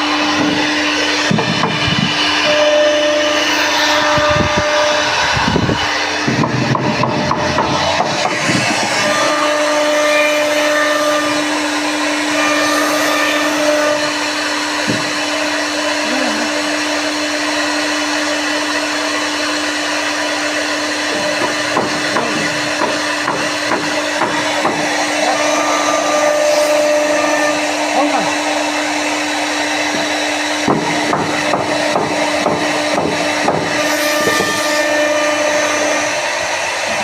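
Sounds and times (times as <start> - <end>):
router motor whine and hiss: 0.0 - 37.0.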